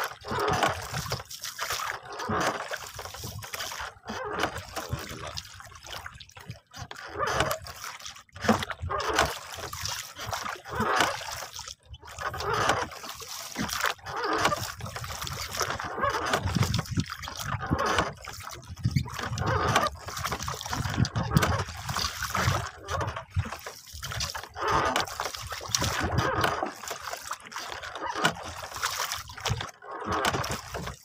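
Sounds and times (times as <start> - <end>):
water splashing against boat hull: 0.0 - 31.0.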